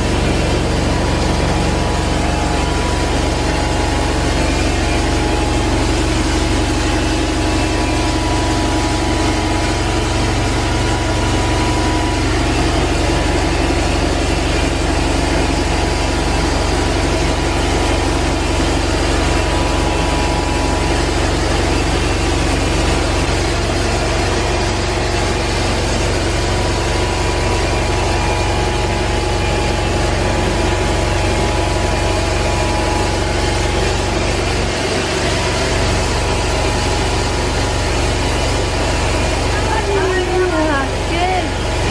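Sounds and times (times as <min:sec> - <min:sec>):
carpet extractor whirring: 0:00.0 - 0:41.9.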